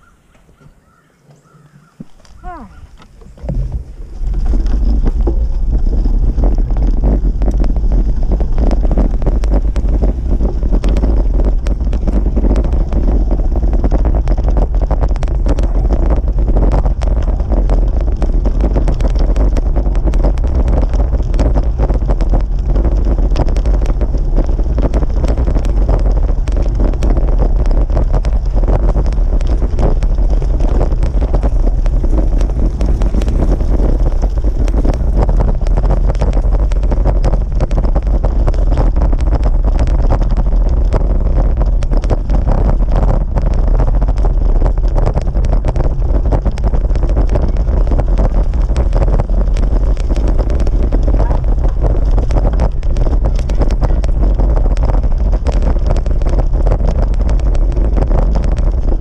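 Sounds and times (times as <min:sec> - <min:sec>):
bike tyres rattling on gravel: 0:00.0 - 0:59.0
wind buffeting microphone: 0:00.0 - 0:59.0.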